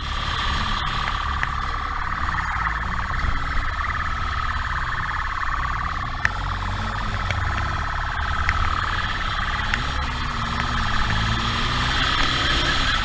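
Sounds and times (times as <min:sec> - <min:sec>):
motorcycle engine rumble: 0:00.0 - 0:13.0
police siren: 0:00.0 - 0:13.0
wind noise: 0:00.0 - 0:13.0.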